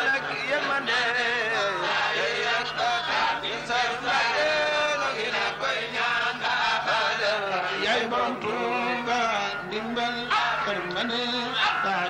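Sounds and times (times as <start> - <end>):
men chanting together: 0.0 - 12.0
steady low hum: 0.0 - 12.0.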